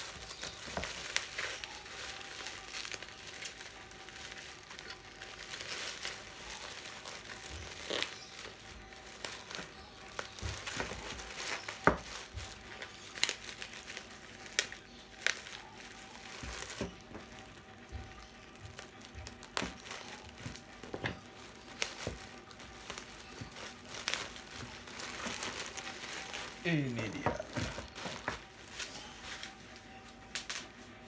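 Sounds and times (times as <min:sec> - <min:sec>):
bubble wrap crinkling: 0:00.0 - 0:31.0.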